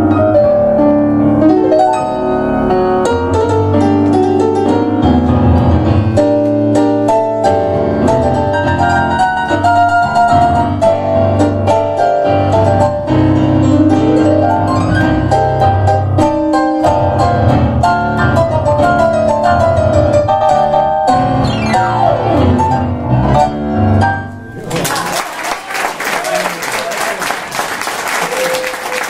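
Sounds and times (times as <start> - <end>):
piano duet playing tango: 0.0 - 25.0.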